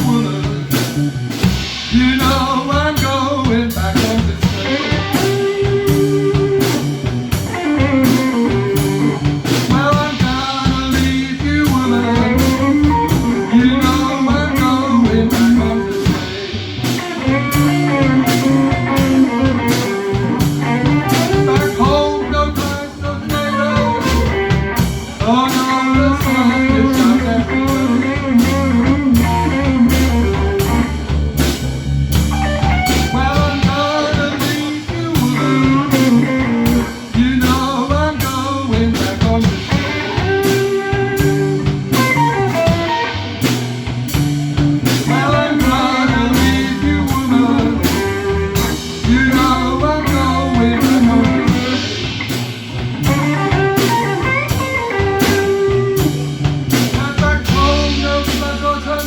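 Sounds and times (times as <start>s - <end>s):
drum kit steady beat: 0.0s - 59.0s
electric guitar bending notes: 0.0s - 59.0s.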